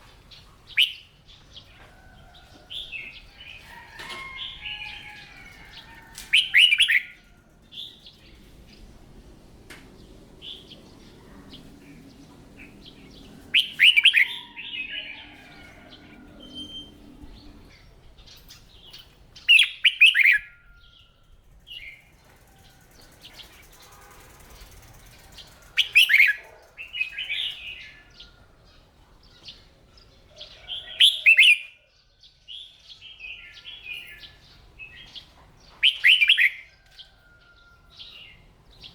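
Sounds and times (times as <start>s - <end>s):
bird song phrases: 0.0s - 21.2s, 24.7s - 38.9s.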